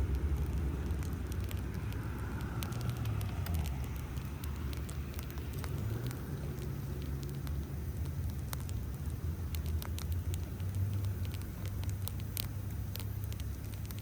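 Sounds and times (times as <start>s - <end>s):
bonfire crackling: 0.0s - 14.0s
fire popping: 0.0s - 14.0s
steady low rumble: 0.0s - 14.0s.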